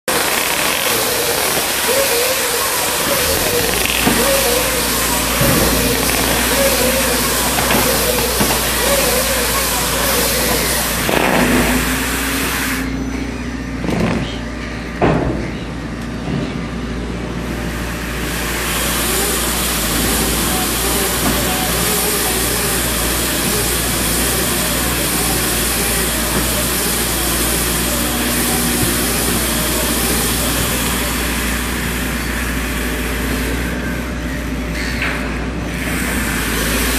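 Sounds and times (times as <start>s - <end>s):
bale-wrapping machine running: 0.0s - 36.9s
excavator engine running: 0.0s - 36.9s.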